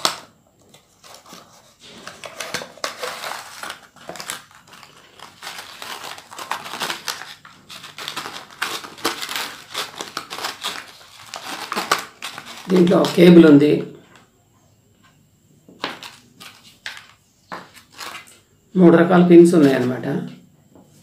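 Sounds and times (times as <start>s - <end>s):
plastic packaging crinkling: 0.0s - 14.2s, 15.8s - 18.4s.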